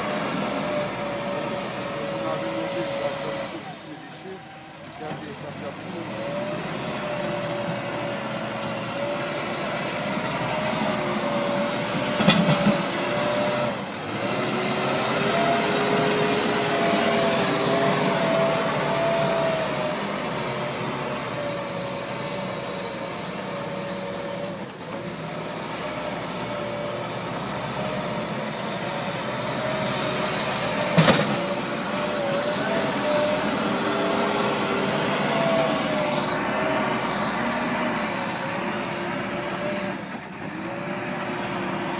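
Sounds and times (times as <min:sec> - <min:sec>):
diesel engine running under load: 0:00.0 - 0:41.9
engine whine: 0:00.0 - 0:41.9.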